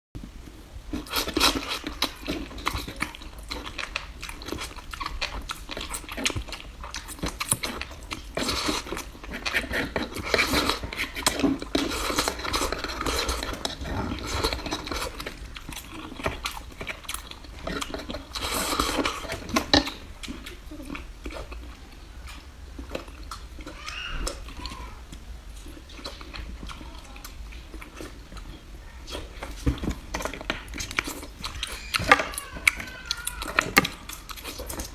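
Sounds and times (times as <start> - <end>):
chewing and crunching: 0.2 - 34.9.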